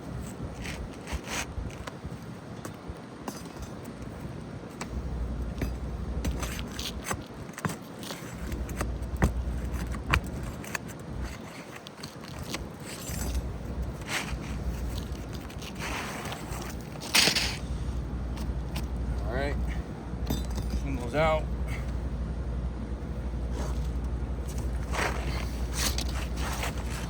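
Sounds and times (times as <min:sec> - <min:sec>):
tool scraping roof shingle: 0:00.1 - 0:22.0, 0:23.4 - 0:27.0.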